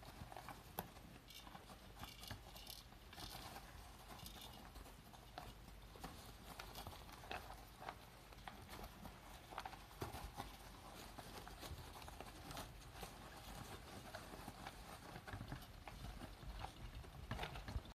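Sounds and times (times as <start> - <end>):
hamsters rustling in bedding: 0.0 - 17.9.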